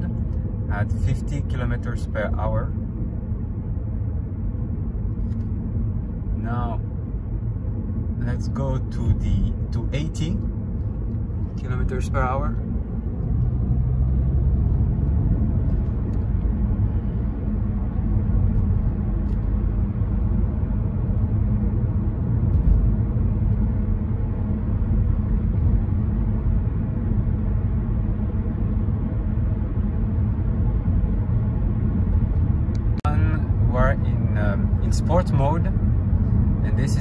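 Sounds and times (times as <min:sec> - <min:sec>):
car interior road noise: 0:00.0 - 0:37.0.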